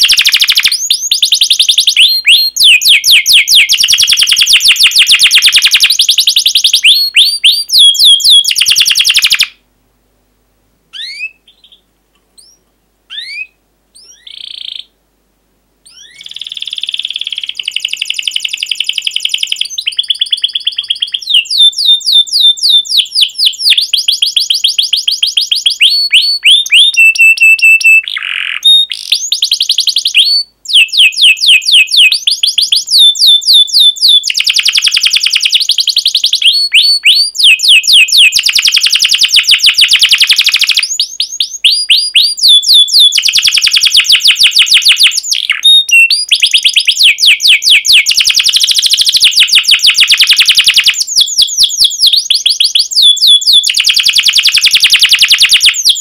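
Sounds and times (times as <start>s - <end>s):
canary singing fast trills: 0.0s - 9.6s, 10.9s - 15.0s, 15.8s - 56.0s.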